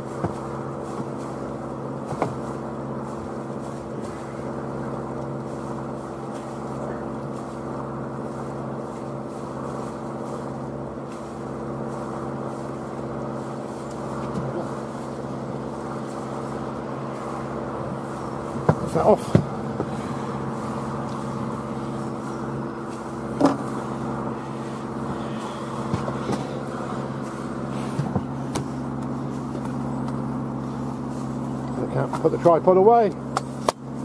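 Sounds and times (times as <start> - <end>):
boat engine idling: 0.0 - 34.0.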